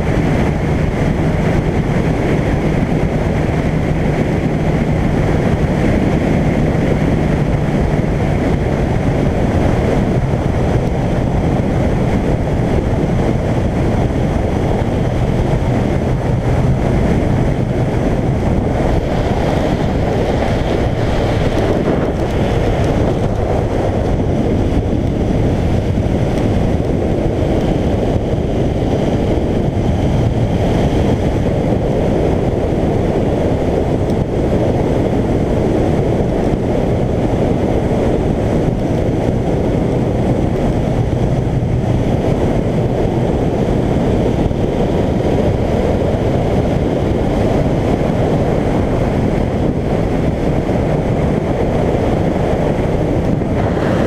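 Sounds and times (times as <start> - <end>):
motorcycle engine hum: 0.0 - 54.0
wind rush on microphone: 0.0 - 54.0.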